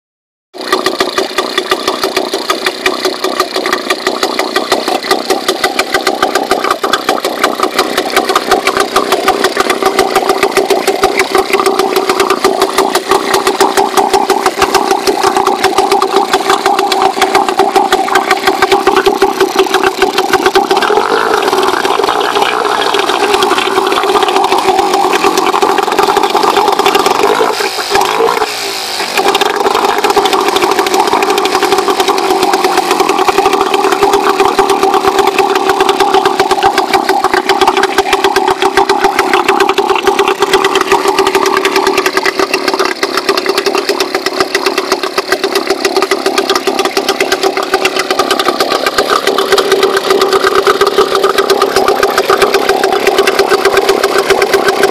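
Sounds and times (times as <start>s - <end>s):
outboard motor running: 0.5s - 54.9s.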